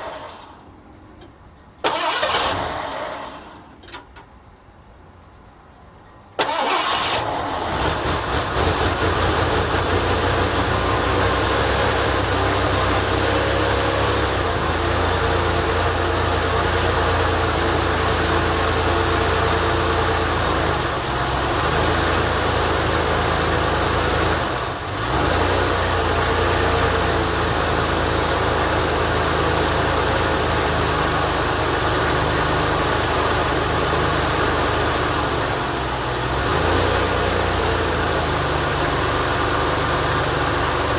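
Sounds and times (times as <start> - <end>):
car engine starting and idling: 0.0 - 40.9.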